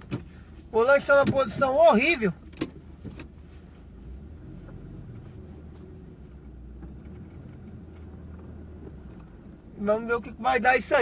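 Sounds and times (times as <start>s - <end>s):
car engine drone inside cabin: 0.0s - 11.0s.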